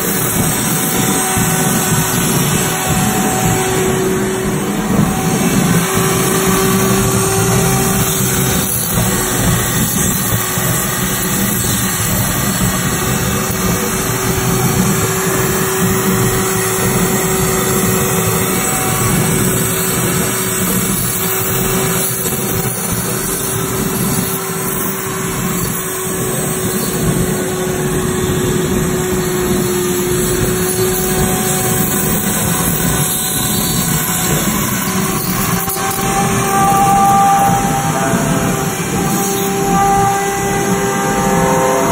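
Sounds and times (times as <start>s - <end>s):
motor-driven turntable running: 0.0s - 41.9s
power tool whining: 0.0s - 41.9s.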